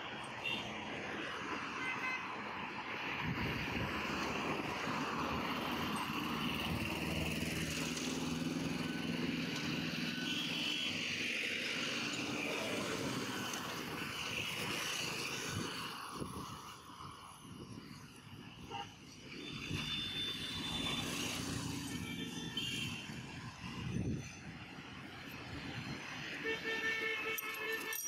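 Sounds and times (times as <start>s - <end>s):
cars passing: 0.0s - 28.0s.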